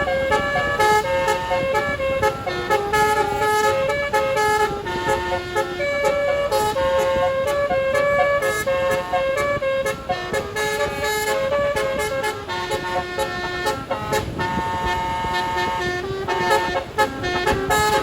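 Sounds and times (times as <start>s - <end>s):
multi-tone musical bus horn: 0.0s - 18.0s
steady background noise: 0.0s - 18.0s.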